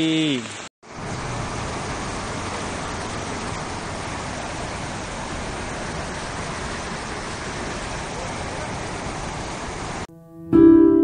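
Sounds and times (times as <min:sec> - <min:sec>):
river water rushing: 0:00.0 - 0:10.1.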